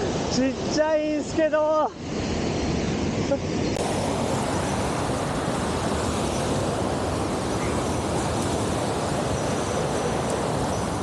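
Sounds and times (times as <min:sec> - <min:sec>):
rushing stream and waterfall: 0:00.0 - 0:11.0.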